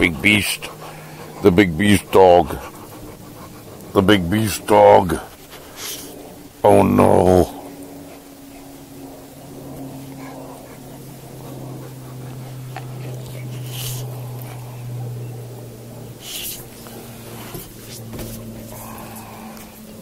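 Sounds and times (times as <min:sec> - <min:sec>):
dog sniffing: 0:00.0 - 0:06.5, 0:09.8 - 0:19.8
dog snorting: 0:00.0 - 0:19.9
low hum: 0:00.0 - 0:20.0.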